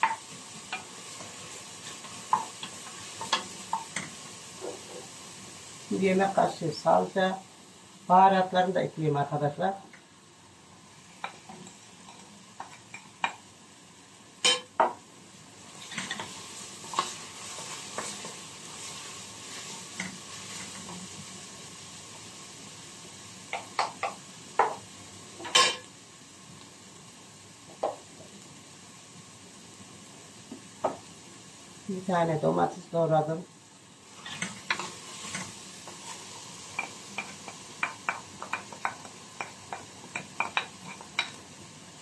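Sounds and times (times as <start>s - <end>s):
onions sizzling in pot: 0.0s - 42.0s.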